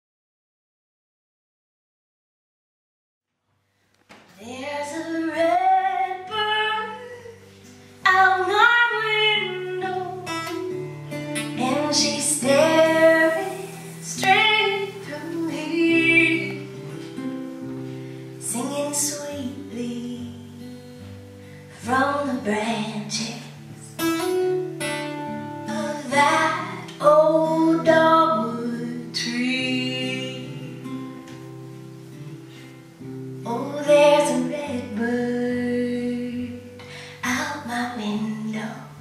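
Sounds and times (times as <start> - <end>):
acoustic guitar: 3.5 - 39.0
woman singing folk song: 4.3 - 39.0.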